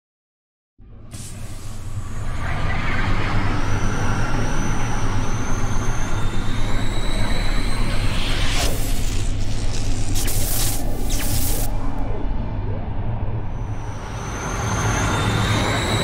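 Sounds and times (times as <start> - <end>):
deep space rumble: 0.8 - 16.0
high gliding whistling tones: 1.8 - 9.4, 10.3 - 16.0.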